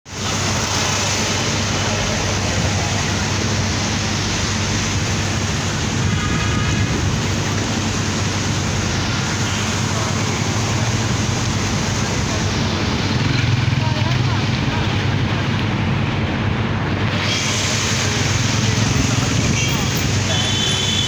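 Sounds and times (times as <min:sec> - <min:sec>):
rain and traffic on wet road: 0:00.1 - 0:21.0.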